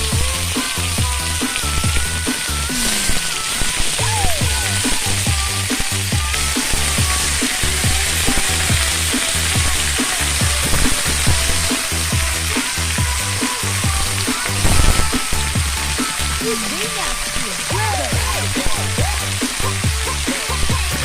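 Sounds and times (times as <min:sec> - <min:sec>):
food sizzling in a pan: 0:00.0 - 0:21.0
music with bass beat: 0:00.0 - 0:21.0.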